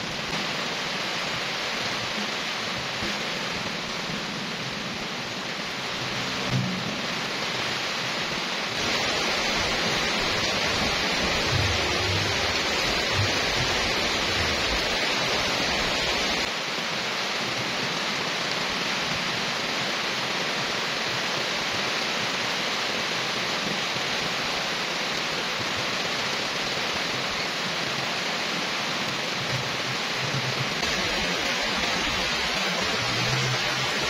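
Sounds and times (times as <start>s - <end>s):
rain falling on wet road: 0.0s - 34.0s.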